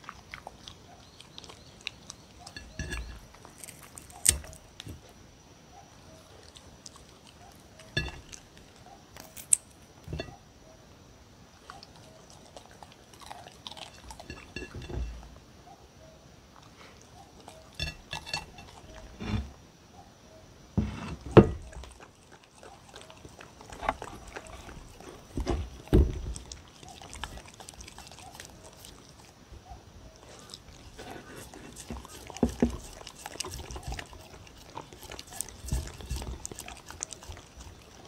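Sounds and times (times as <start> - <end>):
puppy licking and chewing: 0.0 - 5.2, 6.0 - 10.3, 11.6 - 15.3, 16.6 - 19.2, 21.4 - 38.0.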